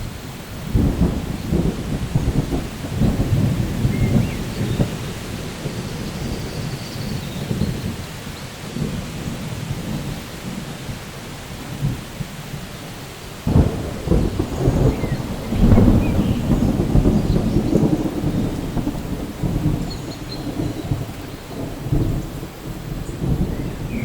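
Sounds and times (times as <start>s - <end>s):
rolling thunder: 0.0s - 12.7s, 13.3s - 24.0s
steady rain: 0.0s - 24.0s.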